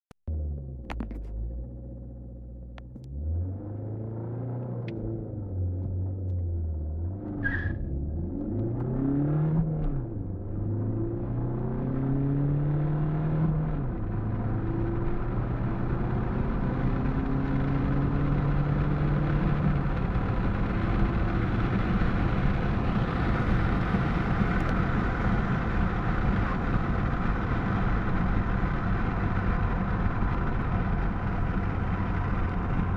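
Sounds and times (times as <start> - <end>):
car engine accelerating: 0.3 - 32.9
road and wind noise: 0.7 - 32.9.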